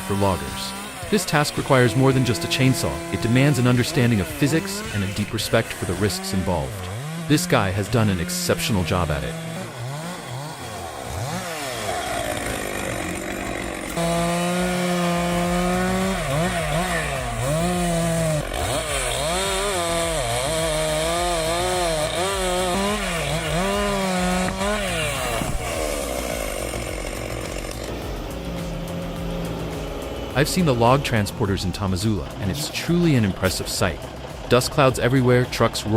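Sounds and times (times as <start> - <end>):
chainsaw cutting through roots: 0.0 - 35.9.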